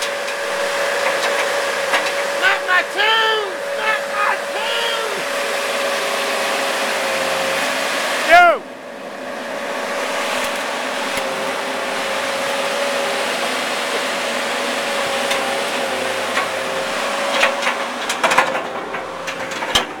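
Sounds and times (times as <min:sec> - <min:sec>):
excavator engine and hydraulics: 0:00.0 - 0:20.0.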